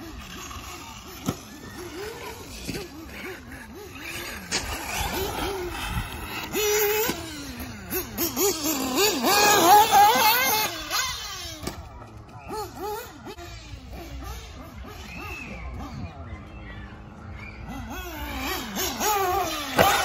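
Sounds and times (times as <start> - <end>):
electric rc car motors whining: 0.0 - 20.0.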